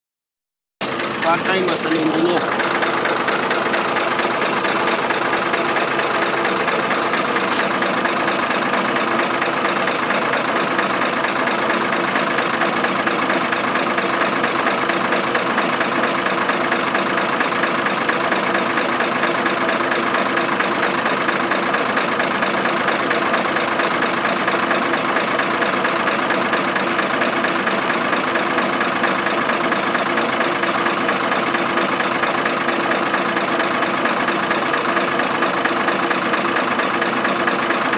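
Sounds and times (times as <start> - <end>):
engine idling: 0.8 - 37.9.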